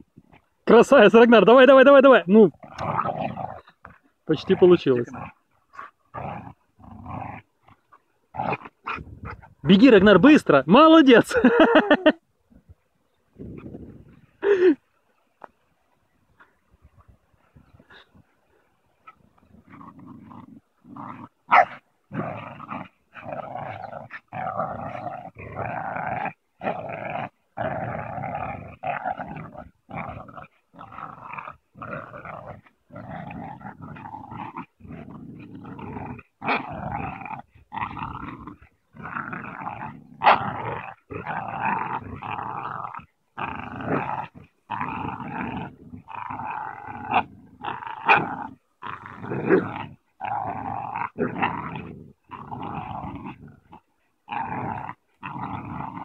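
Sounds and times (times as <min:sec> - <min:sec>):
dogs growling in play: 0:01.7 - 0:10.4, 0:11.2 - 0:14.8, 0:16.1 - 0:56.0.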